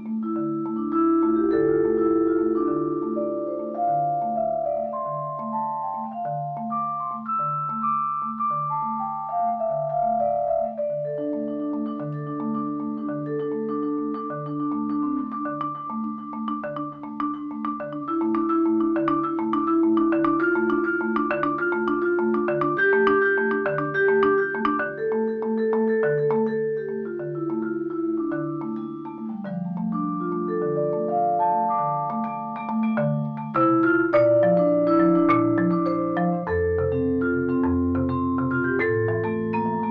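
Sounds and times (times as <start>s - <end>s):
vibraphone and marimba melody: 0.0s - 39.9s.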